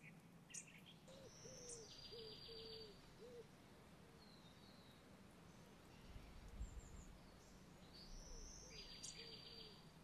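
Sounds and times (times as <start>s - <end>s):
faint woodland ambience: 0.0s - 10.0s.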